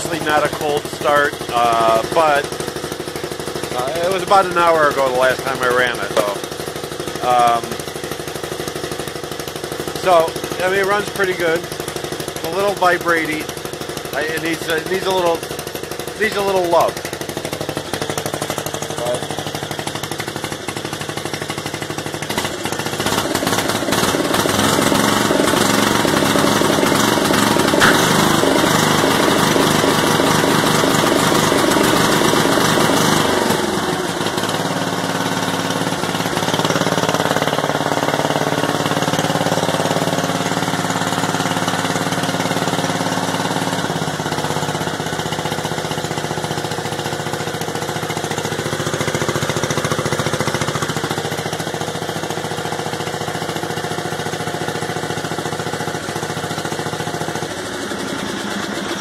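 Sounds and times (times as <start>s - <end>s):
garden tractor engine running: 0.0s - 59.0s.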